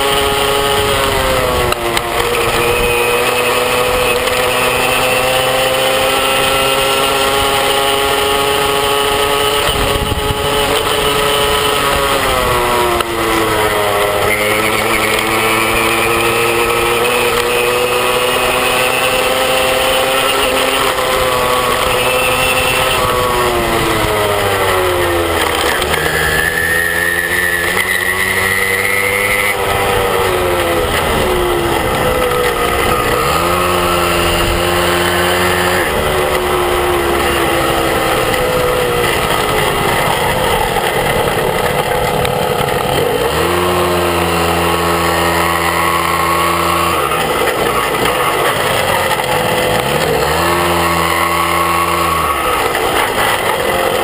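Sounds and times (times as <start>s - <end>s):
moped engine: 0.0s - 54.0s
wind and road noise: 0.0s - 54.0s.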